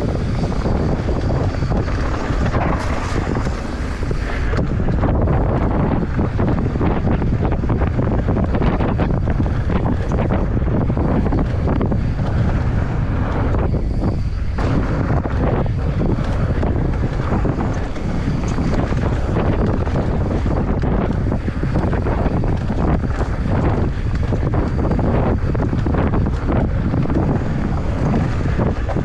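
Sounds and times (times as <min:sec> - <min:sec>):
bike rumbling over dirt trail: 0:00.0 - 0:29.0
wind rushing over microphone: 0:00.0 - 0:29.0.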